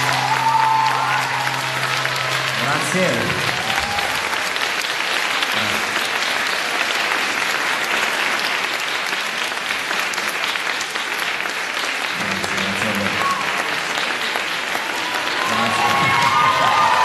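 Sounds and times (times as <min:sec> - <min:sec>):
applause: 0:00.0 - 0:17.0.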